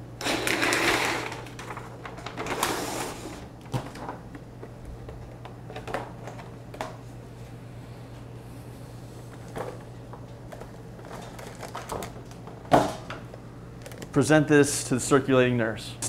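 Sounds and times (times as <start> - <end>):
steady low hum: 1.2 - 16.0.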